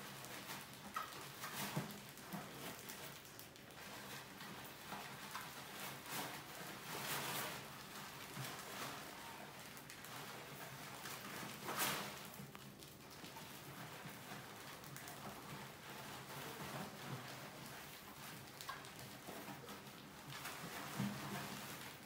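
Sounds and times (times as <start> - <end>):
mice scratching and scrabbling: 0.0 - 22.0.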